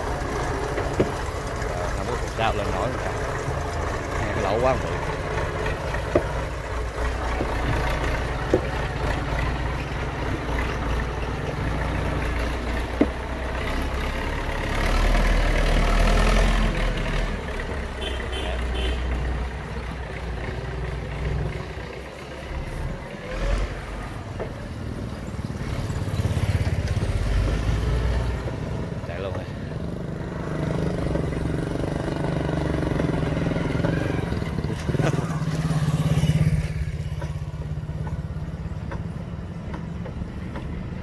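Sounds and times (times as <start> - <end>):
tractor diesel engine working hard: 0.0 - 41.0.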